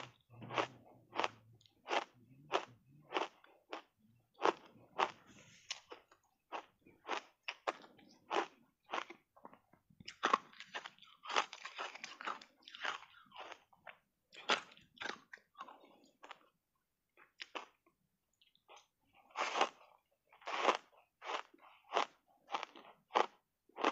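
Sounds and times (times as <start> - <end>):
ice crunching while chewing: 0.0 - 16.5, 18.6 - 23.9.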